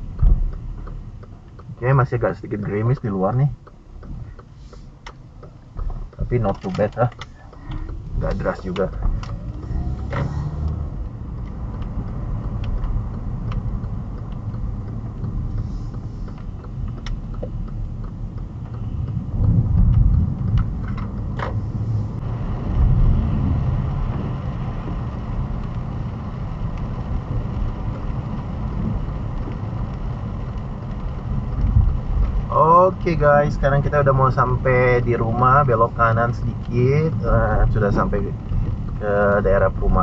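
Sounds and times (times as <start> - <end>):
faint clicks: 0.0 - 22.3, 23.8 - 40.0
tyres and engine rumbling: 0.0 - 40.0.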